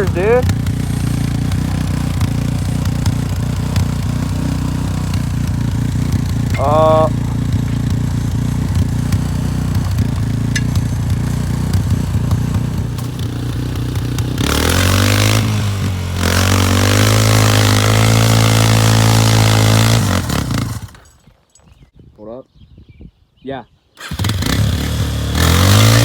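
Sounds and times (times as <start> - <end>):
engine idling and revving: 0.0 - 21.2, 24.0 - 26.0.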